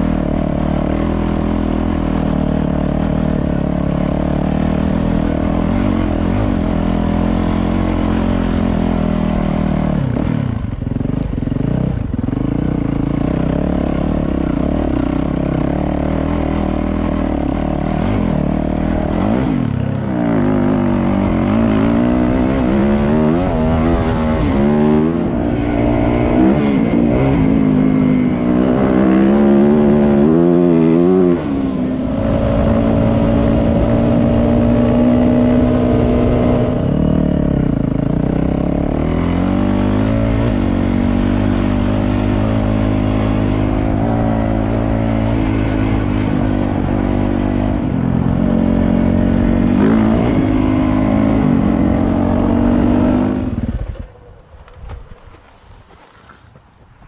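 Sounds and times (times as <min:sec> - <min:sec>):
dirt bike engine revving: 0:00.0 - 0:55.5.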